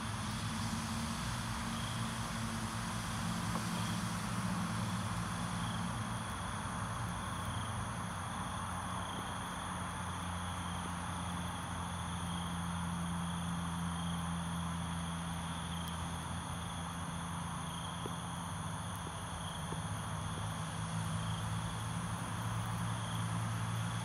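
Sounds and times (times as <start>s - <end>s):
high insect chirp: 1.6s - 2.4s, 3.8s - 24.0s.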